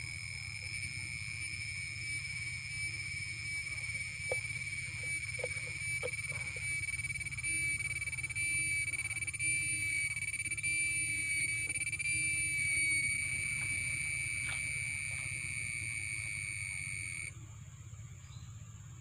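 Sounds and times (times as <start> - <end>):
high-pitched whine: 0.0 - 17.4
low hum: 0.0 - 19.0.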